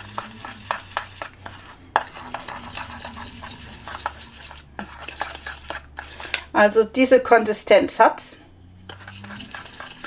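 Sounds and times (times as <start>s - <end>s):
spoon stirring thick paste: 0.0s - 10.0s.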